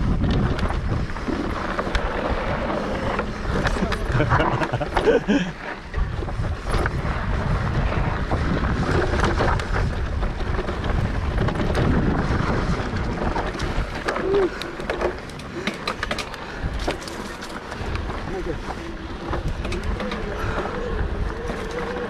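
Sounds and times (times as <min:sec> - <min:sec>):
bike clicks and rattles: 0:00.0 - 0:22.0
tyres rolling over dirt: 0:00.0 - 0:22.0
wind rumbling on microphone: 0:00.0 - 0:22.0.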